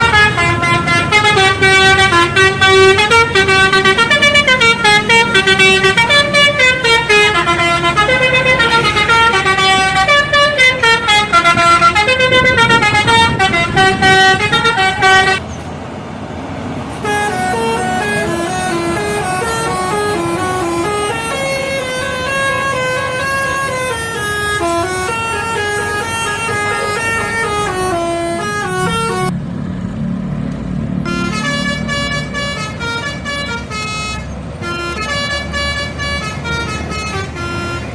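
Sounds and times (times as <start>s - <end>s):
musical air horn melody: 0.0s - 15.4s, 17.0s - 29.3s, 31.0s - 37.9s
low engine rumble: 0.0s - 37.9s.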